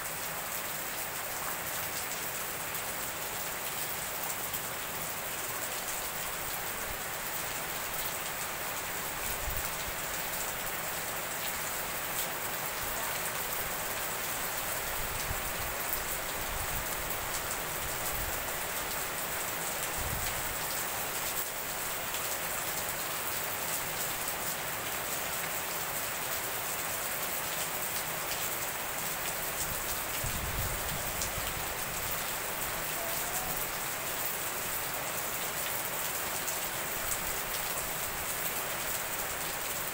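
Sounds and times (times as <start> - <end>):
heavy rain on wet paving: 0.0 - 39.9.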